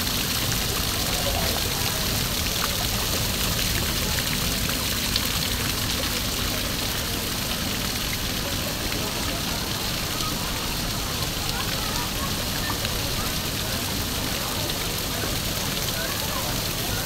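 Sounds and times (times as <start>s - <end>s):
waterfall trickling and splashing: 0.0s - 17.0s.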